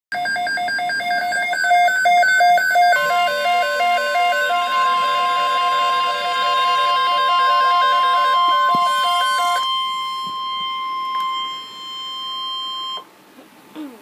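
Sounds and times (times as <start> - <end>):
steady high alarm tone: 0.1 - 13.1.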